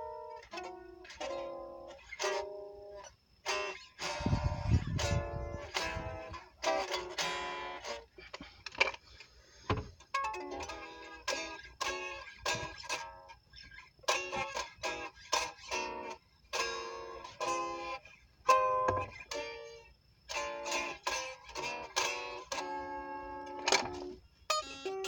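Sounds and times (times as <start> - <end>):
fingerstyle guitar runs: 3.5 - 9.0, 9.7 - 25.0.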